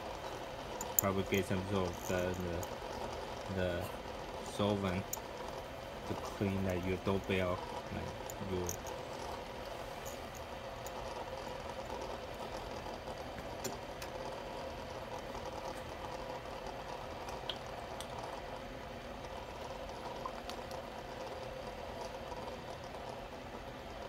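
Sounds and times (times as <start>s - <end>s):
fidget spinners whirring: 0.0s - 24.0s.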